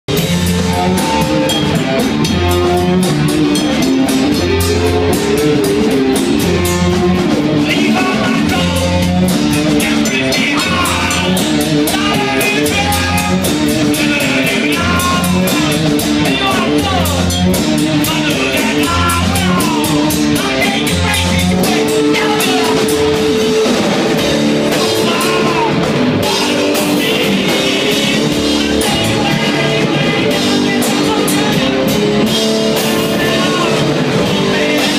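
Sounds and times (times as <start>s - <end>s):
distorted electric guitars: 0.0s - 34.9s
drum kit with busy cymbals: 0.1s - 34.9s
person singing: 0.2s - 34.9s.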